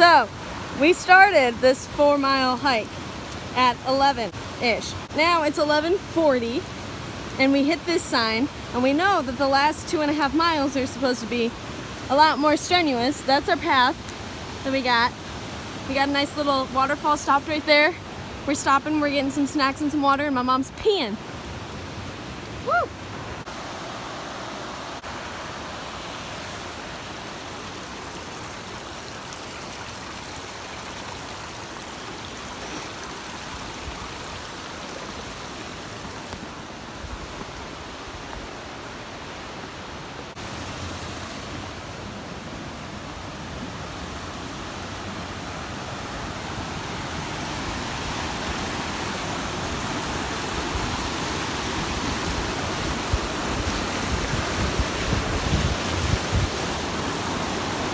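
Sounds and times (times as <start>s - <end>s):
small waterfall rushing: 0.0s - 57.9s.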